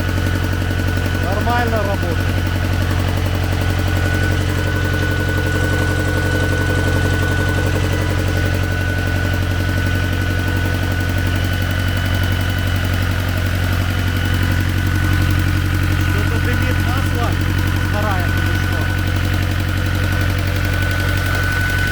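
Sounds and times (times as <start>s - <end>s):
tractor diesel engine idling: 0.0s - 21.9s.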